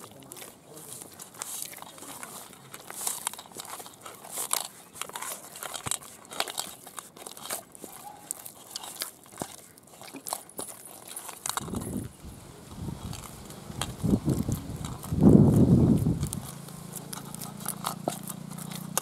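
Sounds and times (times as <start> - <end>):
dough squelching and slapping: 0.0 - 19.0.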